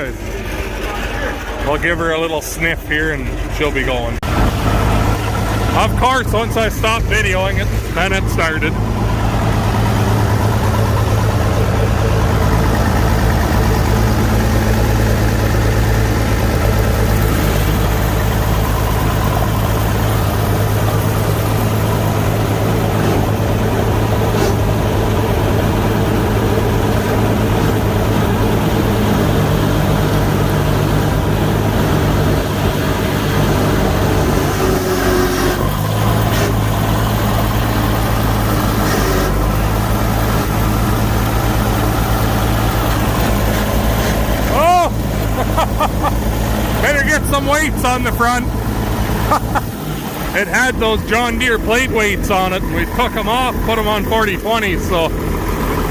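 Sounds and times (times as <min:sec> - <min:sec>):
tractor engine idling: 0:00.0 - 0:55.9.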